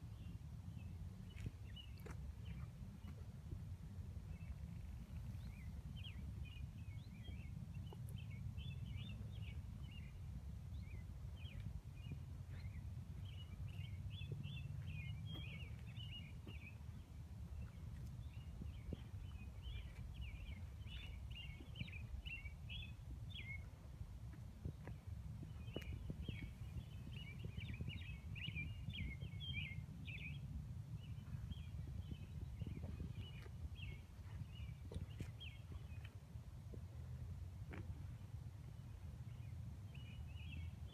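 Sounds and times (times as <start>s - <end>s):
songbird singing: 0.0s - 3.6s, 4.3s - 40.9s
low outdoor rumble: 0.0s - 40.9s.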